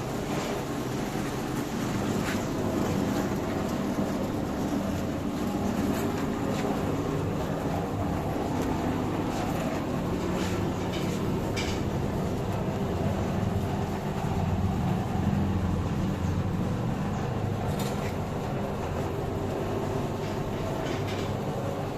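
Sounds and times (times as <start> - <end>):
motor and roller hum: 0.0 - 21.9.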